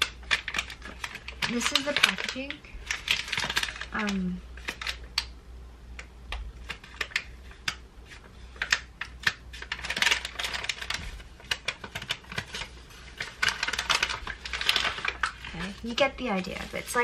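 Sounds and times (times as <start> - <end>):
paper packaging crinkling: 0.0 - 5.3, 6.5 - 17.0.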